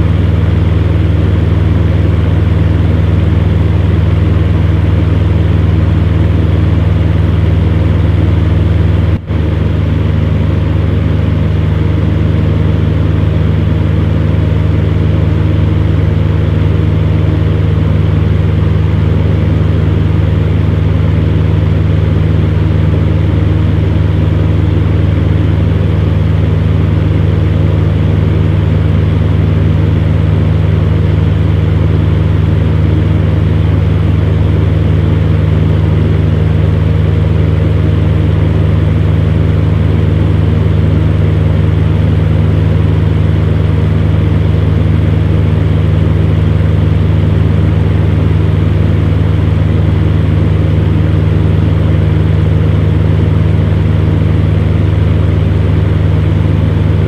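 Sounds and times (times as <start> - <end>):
electric fan humming: 0.0 - 57.0.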